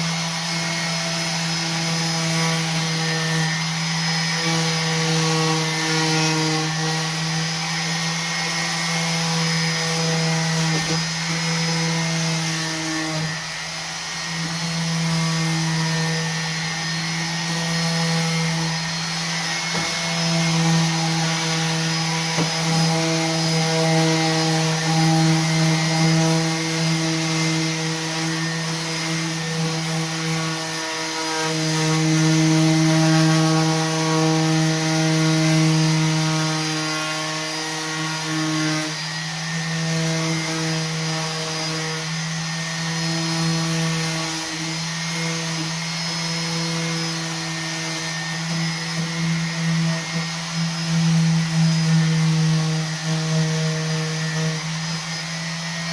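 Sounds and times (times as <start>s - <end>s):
orbital sander sanding wood: 0.0s - 55.9s.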